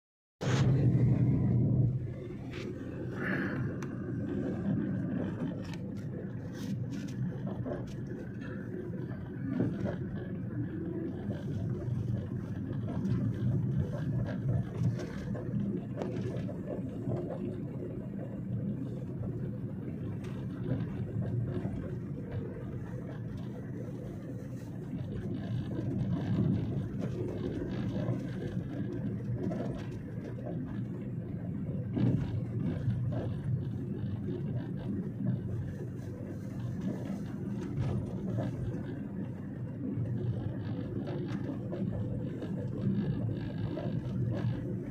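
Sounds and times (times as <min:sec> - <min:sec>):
car engine and tyre rumble: 0:00.4 - 0:44.9.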